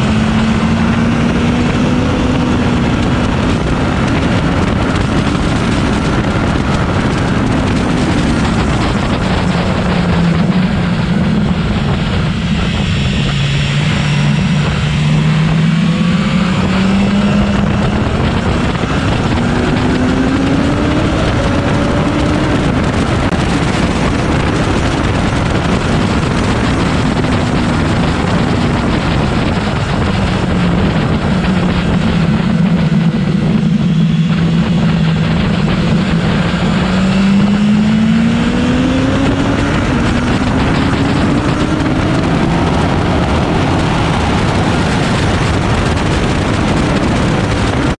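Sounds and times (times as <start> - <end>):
motorcycle engine running hard: 0.0 - 48.0
wind and road noise: 0.0 - 48.0.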